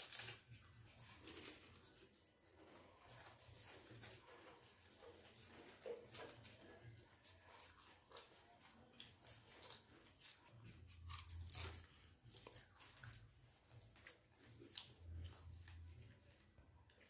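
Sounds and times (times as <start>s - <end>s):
crunching and chewing: 0.0s - 17.0s.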